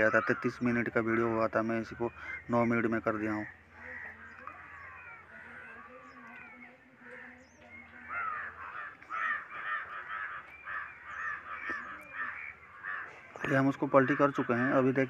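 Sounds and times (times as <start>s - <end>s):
birds making harsh rapid calls: 0.0s - 15.0s.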